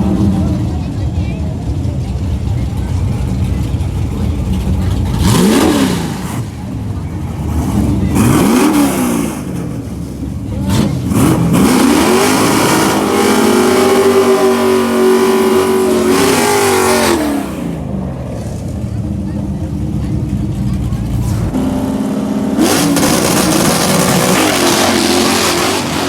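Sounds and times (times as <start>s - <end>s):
drag car engine revving: 0.0s - 26.0s.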